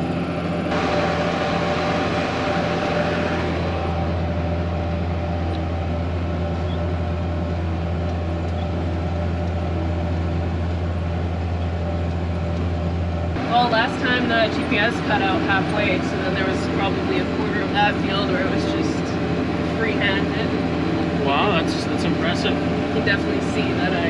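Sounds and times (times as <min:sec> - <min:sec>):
tractor engine droning: 0:00.0 - 0:24.0.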